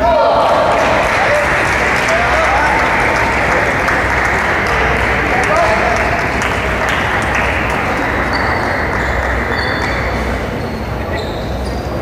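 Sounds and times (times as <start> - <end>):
crowd murmuring: 0.0 - 12.0
applause: 0.4 - 10.3.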